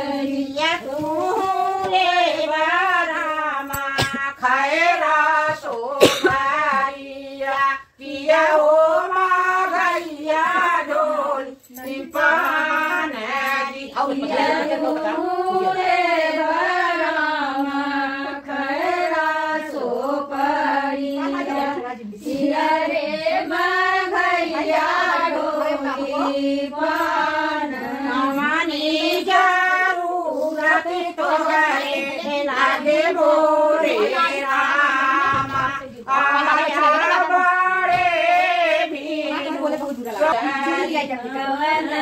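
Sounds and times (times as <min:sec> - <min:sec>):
women singing folk song: 0:00.0 - 0:42.0.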